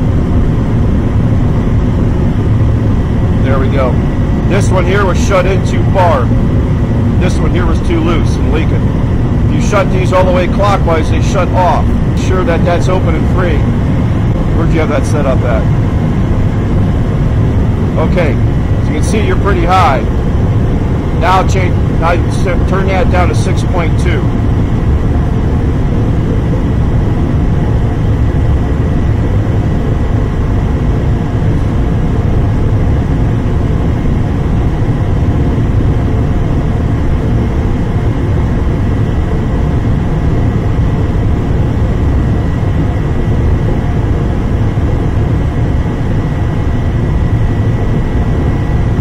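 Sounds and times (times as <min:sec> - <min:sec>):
faint high whine: 0:00.0 - 0:49.0
gas furnace roaring: 0:00.0 - 0:49.0.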